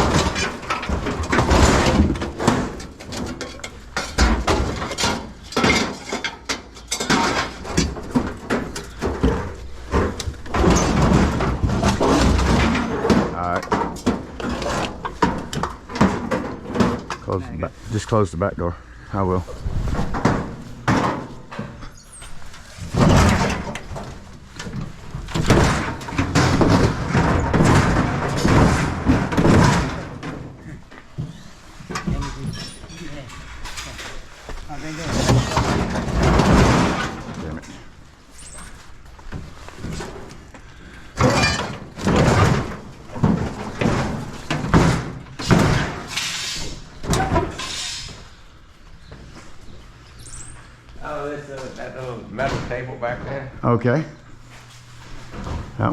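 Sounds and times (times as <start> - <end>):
scraping rattling handling noise: 0.0 - 53.6.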